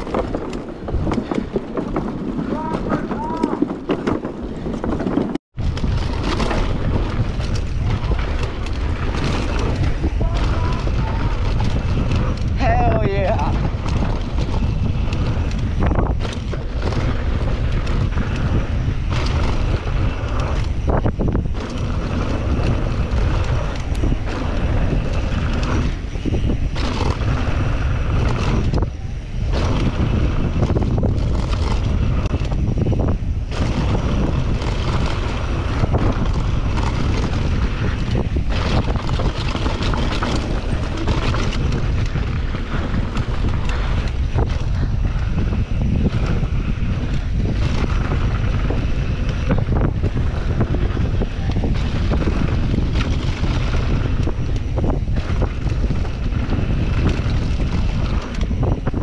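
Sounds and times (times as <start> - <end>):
bike knocking and rattling: 0.0 - 59.0
wind rushing on microphone: 0.0 - 59.0.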